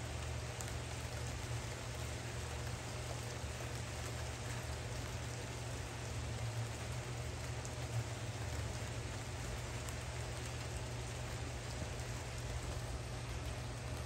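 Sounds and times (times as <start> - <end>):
low steady rumble: 0.0 - 14.0
rain pattering on water: 0.0 - 14.0.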